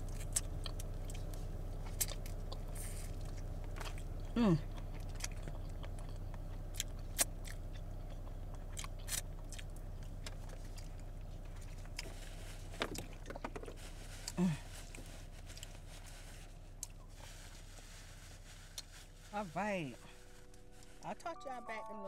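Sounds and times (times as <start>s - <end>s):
chewing crunchy food: 0.0s - 17.6s, 18.5s - 19.1s
car air fan hum: 0.0s - 21.2s.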